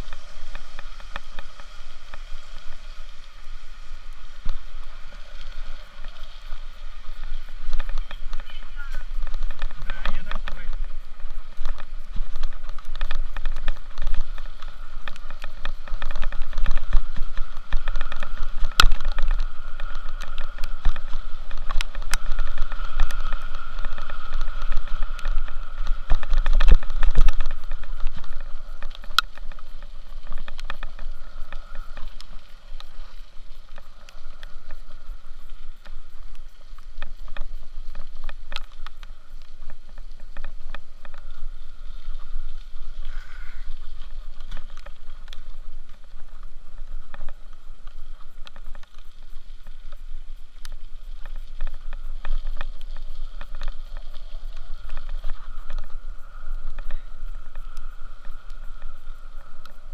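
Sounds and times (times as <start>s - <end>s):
vehicle road and wind noise: 0.0s - 59.9s.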